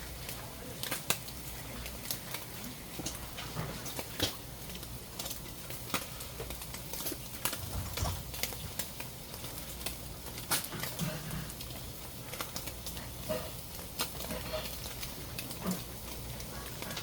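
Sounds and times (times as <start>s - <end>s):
food sizzling: 0.0s - 17.0s
sharp crackles and pops: 0.0s - 17.0s.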